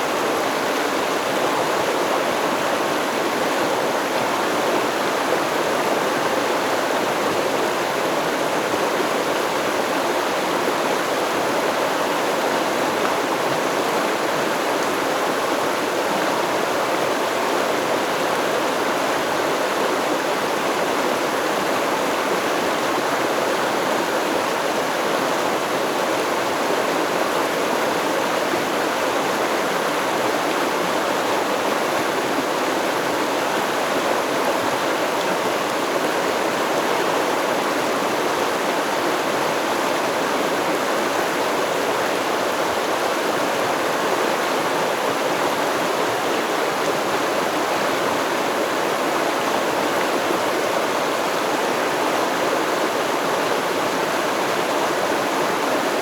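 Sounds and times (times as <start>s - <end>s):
stream water flowing over rocks: 0.0s - 56.0s.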